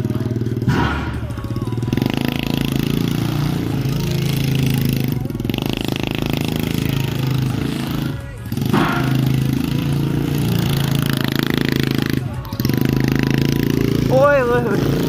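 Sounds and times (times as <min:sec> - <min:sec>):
quad engine running: 0:00.0 - 0:15.0
tyres sliding on dirt: 0:00.0 - 0:15.0.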